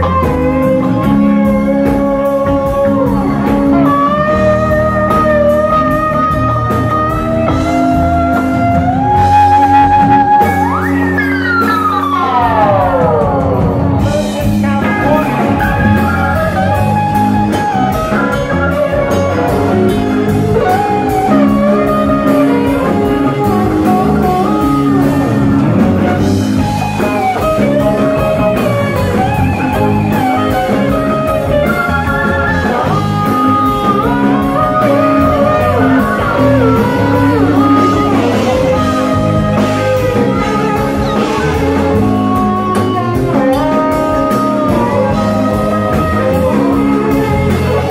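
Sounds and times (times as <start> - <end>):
bass guitar: 0.0 - 47.9
drum kit: 0.0 - 47.9
electric guitar lead: 0.0 - 47.9
keyboard: 0.0 - 47.9.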